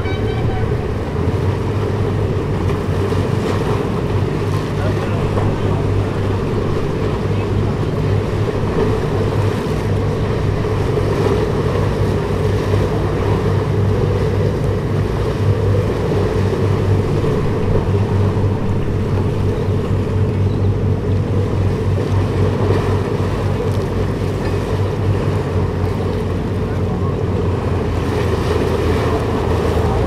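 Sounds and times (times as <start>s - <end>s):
ship engines droning: 0.0s - 30.0s
water noise: 0.0s - 30.0s
wind: 0.0s - 30.0s.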